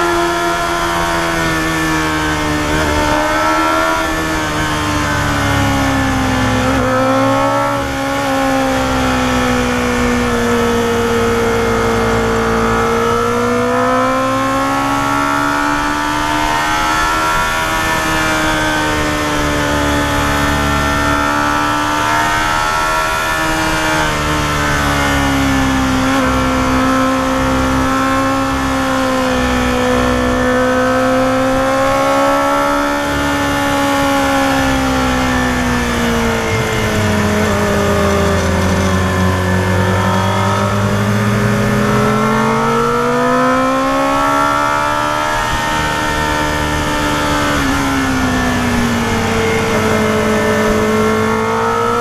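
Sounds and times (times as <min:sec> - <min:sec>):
motorcycle engine revving: 0:00.0 - 0:52.0
wind and road noise: 0:00.0 - 0:52.0.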